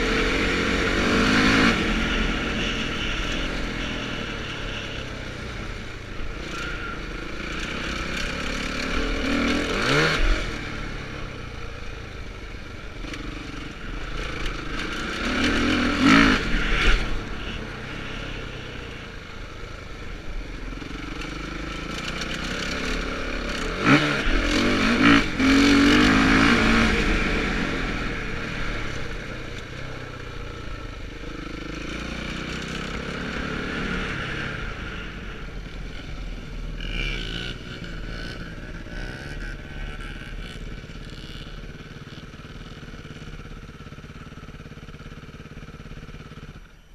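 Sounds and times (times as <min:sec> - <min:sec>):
motocross bike engine revving: 0:00.0 - 0:11.1, 0:12.8 - 0:19.2, 0:20.6 - 0:30.4, 0:31.1 - 0:46.6.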